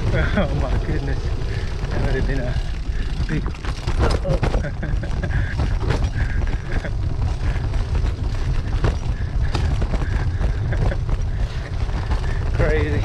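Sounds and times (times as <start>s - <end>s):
bicycle rattling over rough road: 0.0s - 13.0s
wind rumble on microphone: 0.0s - 13.0s.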